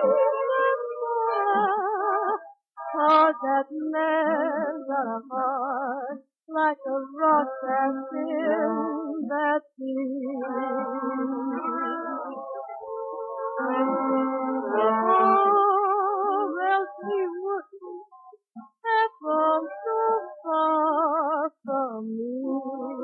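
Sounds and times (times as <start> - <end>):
old record music with vibrato melody: 0.0 - 23.0.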